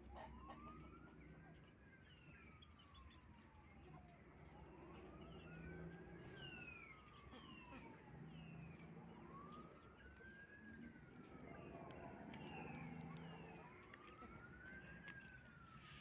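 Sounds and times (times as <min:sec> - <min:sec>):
distant wailing siren: 0:00.0 - 0:16.0.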